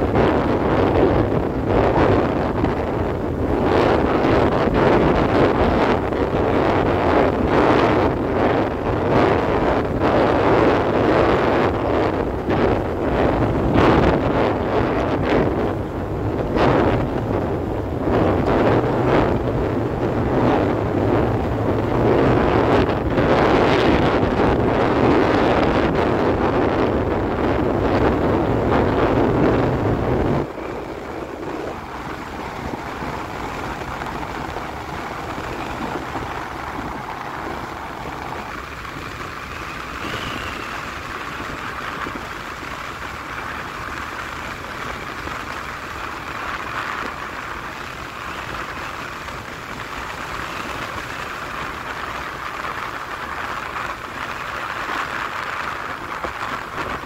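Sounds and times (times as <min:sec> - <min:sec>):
road noise hiss: 0:00.0 - 0:57.0
wind rumble on microphone: 0:00.0 - 0:57.0.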